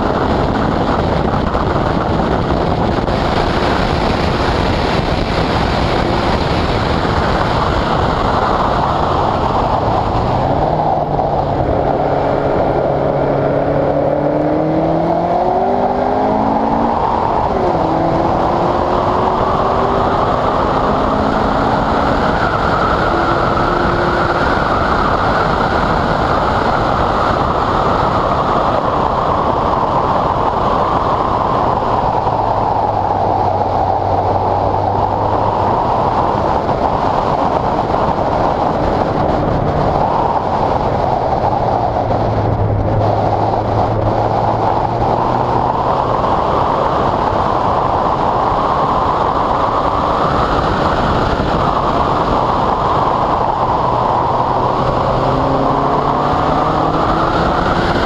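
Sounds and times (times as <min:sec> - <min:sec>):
car engine revving: 0:00.0 - 0:58.0
wind and tyre spray rush: 0:00.0 - 0:58.0.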